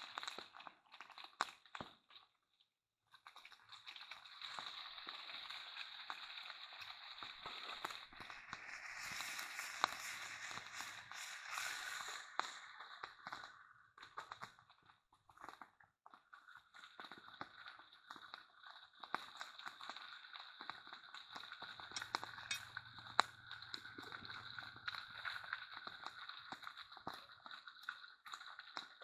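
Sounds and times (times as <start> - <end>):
fish sizzling in a pan: 0.0 - 2.3, 3.2 - 29.0.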